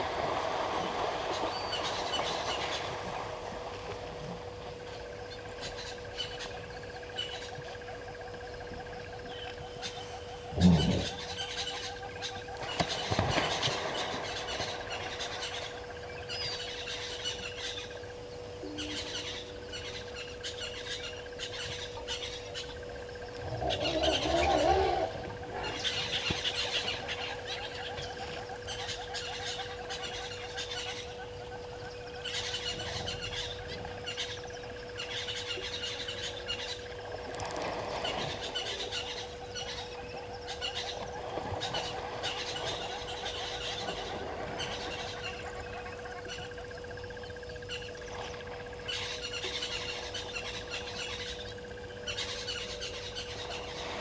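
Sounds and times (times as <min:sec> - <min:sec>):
steady low hum: 0:00.0 - 0:54.0
wild birds chirping and calling: 0:01.0 - 0:03.4, 0:04.3 - 0:54.0.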